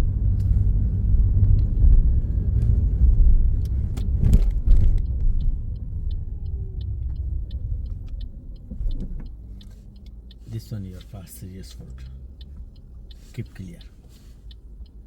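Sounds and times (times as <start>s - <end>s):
car engine and tyres rumbling: 0.0s - 15.0s
turn indicator ticking: 0.0s - 15.0s.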